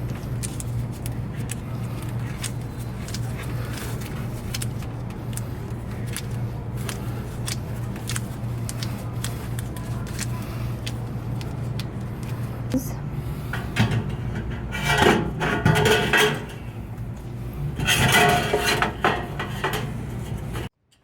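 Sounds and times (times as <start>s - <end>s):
steady low hum: 0.0s - 20.7s.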